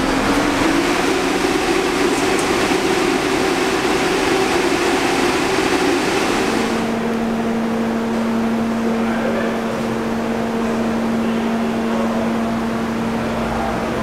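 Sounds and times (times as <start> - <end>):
train hum and fan noise: 0.0 - 14.0.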